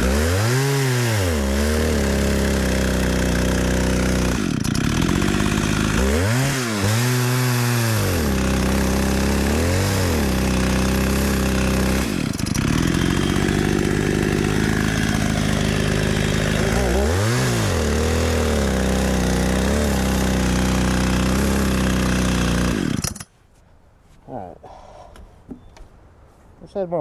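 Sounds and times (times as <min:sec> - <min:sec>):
chainsaw cutting log: 0:00.0 - 0:23.3.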